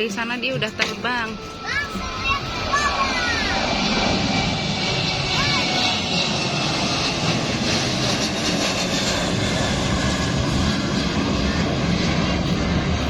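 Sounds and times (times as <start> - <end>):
airplane engine rushing: 0.0 - 13.0.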